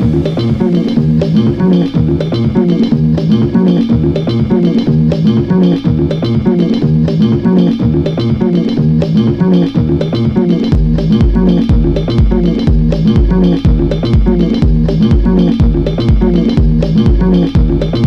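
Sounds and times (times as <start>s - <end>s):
instrumental guitar and bass music: 0.0s - 18.0s.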